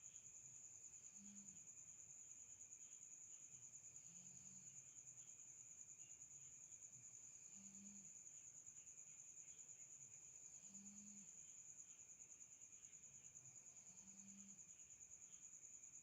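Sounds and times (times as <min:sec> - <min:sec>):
crickets trilling: 0:00.0 - 0:16.0
faint low hum: 0:00.0 - 0:16.0.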